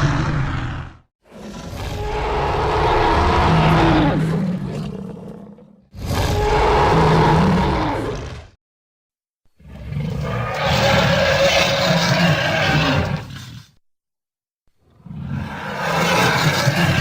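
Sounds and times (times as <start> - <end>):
dinosaur roar: 0.0 - 8.6, 9.6 - 13.7, 14.9 - 17.0.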